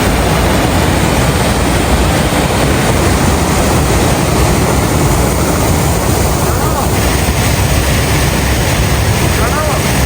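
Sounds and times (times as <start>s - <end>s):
waterfall pouring: 0.0s - 10.0s.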